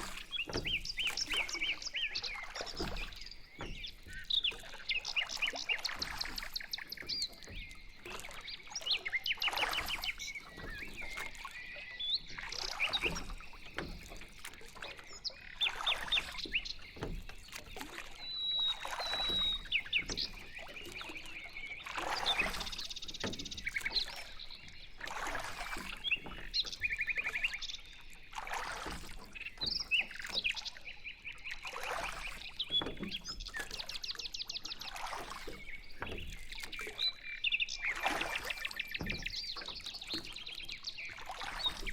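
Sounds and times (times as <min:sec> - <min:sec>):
birds chirping and trilling: 0:00.0 - 0:41.9
paddles swishing through water: 0:00.0 - 0:41.9.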